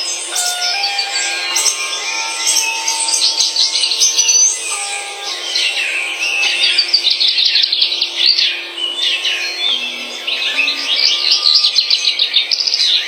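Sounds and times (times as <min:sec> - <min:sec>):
birds chirping rapidly: 0:00.0 - 0:13.0.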